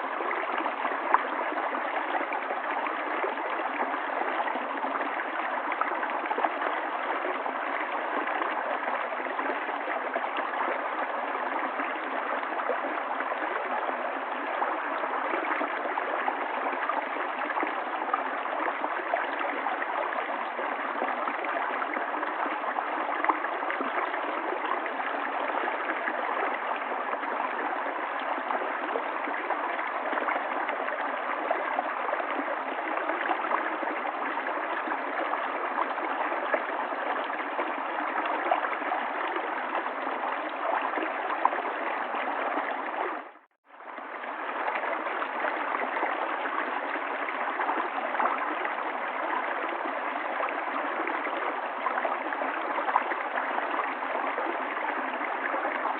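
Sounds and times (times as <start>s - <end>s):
stream babbling over stones: 0.0s - 55.9s.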